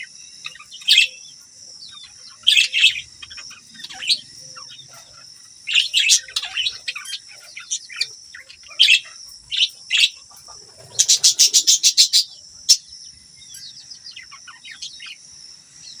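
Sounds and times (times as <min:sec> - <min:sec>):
budgerigars chirping and chattering: 0:00.0 - 0:16.0.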